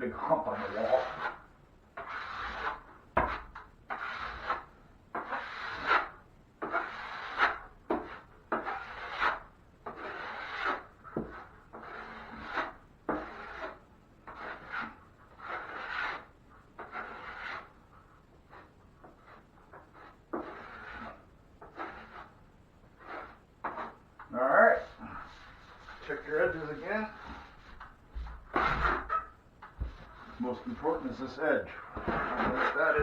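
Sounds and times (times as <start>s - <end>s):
drywall knife scraping compound: 0.0s - 17.8s, 18.4s - 33.0s.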